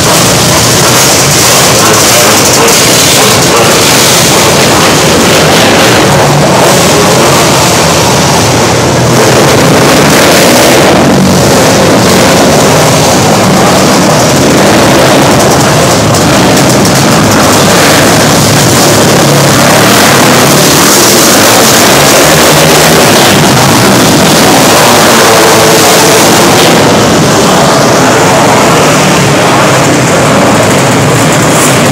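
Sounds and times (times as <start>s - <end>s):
racing kart engines: 0.0s - 31.9s.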